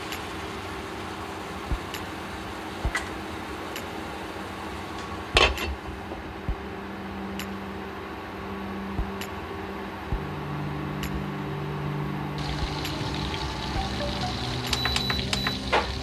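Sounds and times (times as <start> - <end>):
induction cooktop hum: 0.0 - 16.0.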